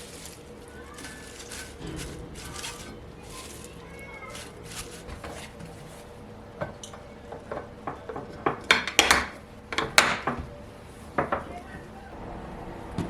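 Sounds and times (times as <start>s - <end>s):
dishes clinking and knocking: 1.0s - 11.8s.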